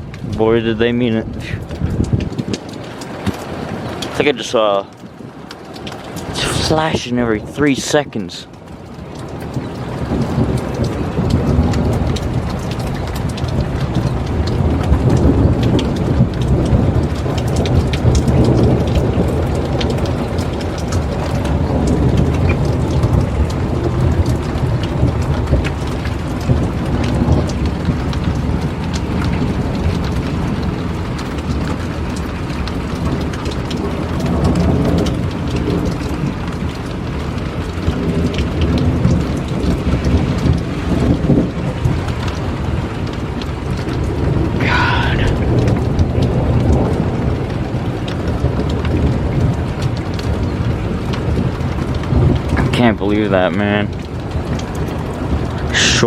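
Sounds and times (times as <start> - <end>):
rain pouring: 0.0 - 56.0
thunder rumbling: 0.0 - 56.0.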